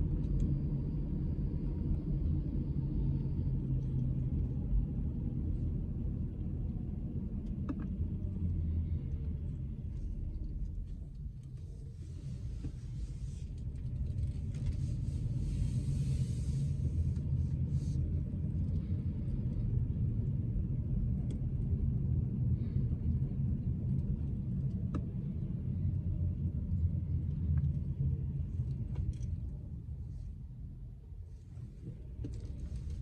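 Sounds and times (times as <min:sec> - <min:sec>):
car road rumble: 0:00.0 - 0:33.0.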